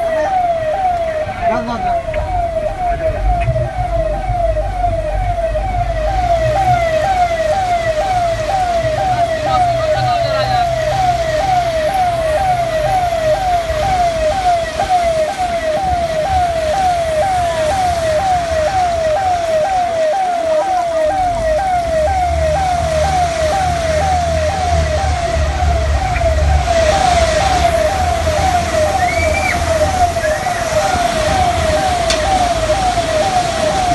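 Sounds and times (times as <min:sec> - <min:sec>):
siren-like electronic tone: 0:00.0 - 0:33.9.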